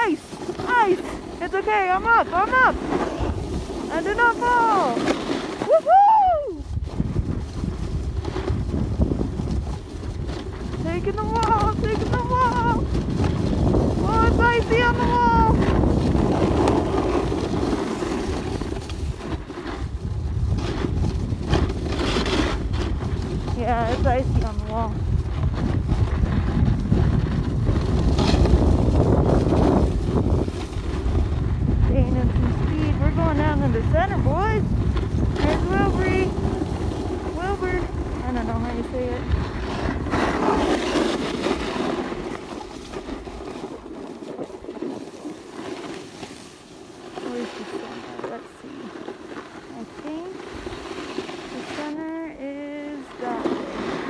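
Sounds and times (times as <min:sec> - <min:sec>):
snowboard scraping over icy snow: 0:00.0 - 0:54.0
wind rumbling on microphone: 0:00.0 - 0:54.0.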